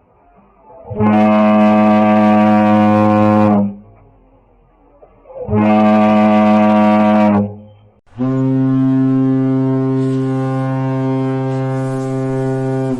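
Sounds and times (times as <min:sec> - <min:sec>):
foghorn deep blasts: 0:00.8 - 0:04.0, 0:05.4 - 0:12.9.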